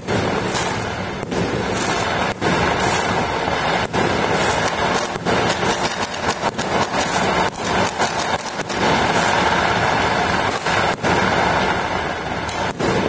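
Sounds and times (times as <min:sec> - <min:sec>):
fireworks and firecrackers crackling: 0:00.0 - 0:13.0.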